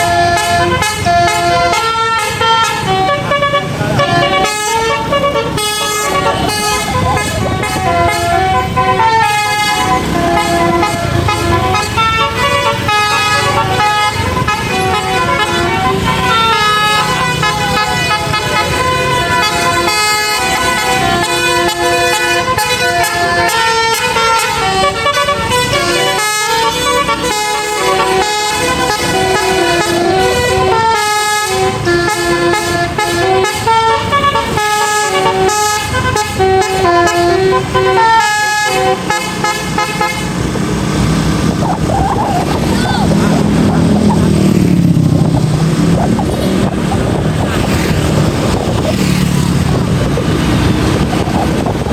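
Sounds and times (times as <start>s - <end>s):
bus multi-tone horn tune: 0.0s - 51.9s
engine and road rumble: 0.0s - 51.9s.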